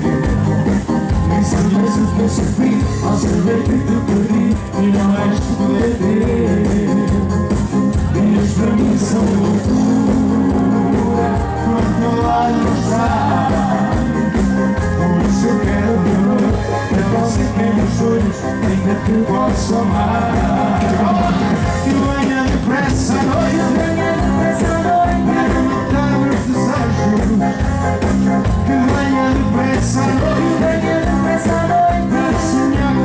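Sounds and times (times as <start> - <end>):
drums: 0.0 - 33.0
live band playing: 0.0 - 33.0.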